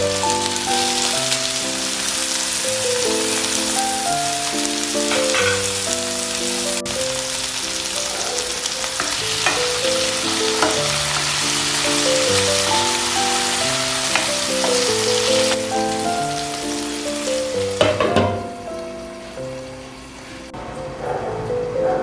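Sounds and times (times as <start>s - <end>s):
food sizzling in a pan: 0.0s - 20.6s
soft background music: 0.0s - 22.0s.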